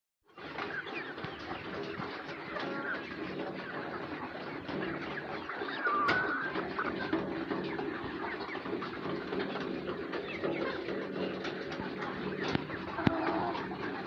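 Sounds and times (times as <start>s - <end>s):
flock of hens clucking: 0.3s - 14.0s.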